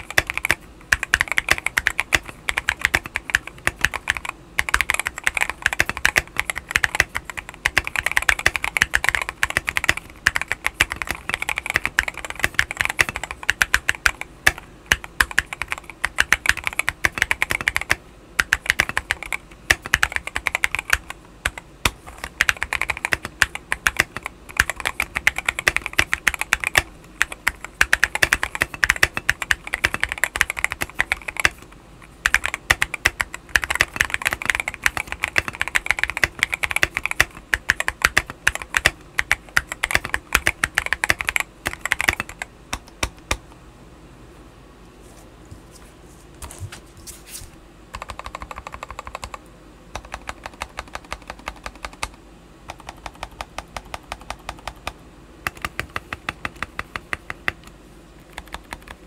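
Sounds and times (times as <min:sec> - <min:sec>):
mechanical keyboard typing: 0:00.0 - 0:43.4, 0:47.9 - 0:59.0.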